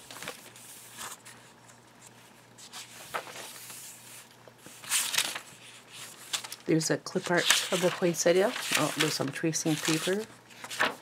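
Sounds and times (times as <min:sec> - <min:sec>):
page flip: 0:00.0 - 0:06.6, 0:07.2 - 0:11.0
paper pages rustling: 0:00.0 - 0:11.0.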